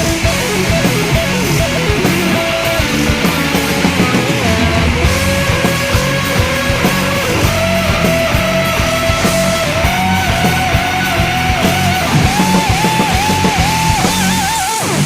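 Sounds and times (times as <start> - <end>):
steady drum beat: 0.0 - 14.6
rock music: 0.0 - 15.0.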